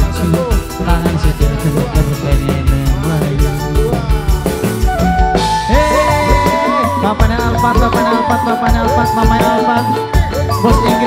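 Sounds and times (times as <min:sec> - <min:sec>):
bass: 0:00.0 - 0:11.0
drum beat: 0:00.0 - 0:11.0
electric guitar and keyboard melody: 0:00.0 - 0:11.0.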